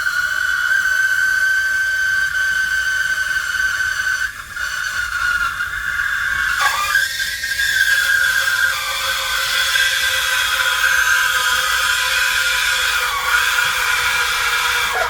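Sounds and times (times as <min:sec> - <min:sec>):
steam wand hissing and whistling: 0:00.0 - 0:15.0.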